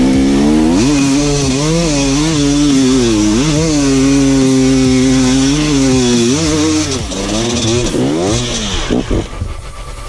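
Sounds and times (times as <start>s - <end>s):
motorcycle engine climbing: 0.0s - 10.0s.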